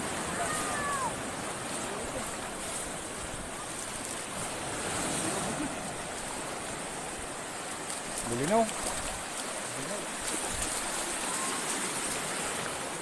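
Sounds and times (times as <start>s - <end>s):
shallow surf rushing: 0.0s - 13.0s.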